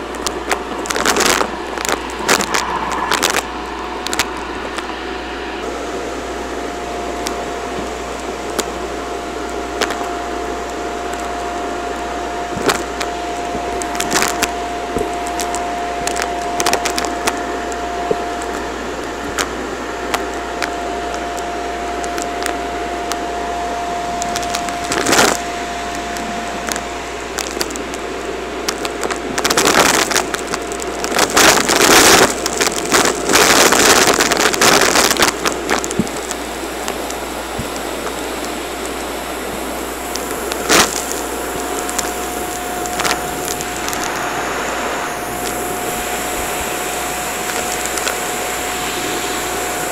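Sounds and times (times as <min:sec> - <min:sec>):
crackling rattle of debris: 0:00.0 - 0:49.9
vacuum cleaner whine: 0:00.0 - 0:49.9.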